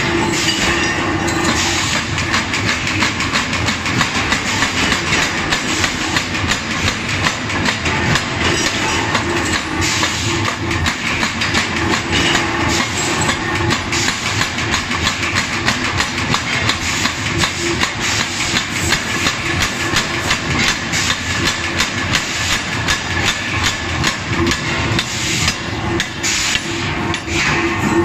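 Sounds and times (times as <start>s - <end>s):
machine running noise: 0.0s - 28.0s.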